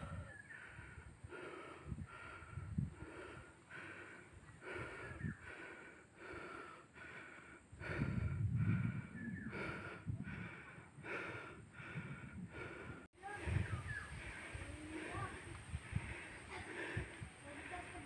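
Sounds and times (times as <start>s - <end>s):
wind rumble on microphone: 0.0s - 5.6s, 7.7s - 18.0s
person panting: 0.0s - 18.0s.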